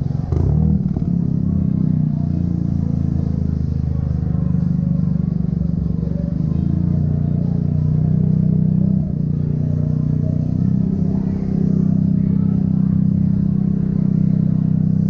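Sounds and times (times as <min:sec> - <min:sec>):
deep car exhaust drone: 0:00.0 - 0:15.0.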